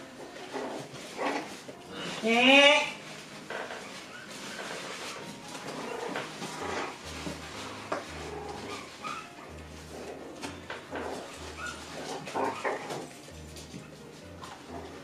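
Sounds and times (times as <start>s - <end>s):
scuffling and small knocks: 0.0s - 15.0s
puppies yipping and whimpering: 0.2s - 15.0s.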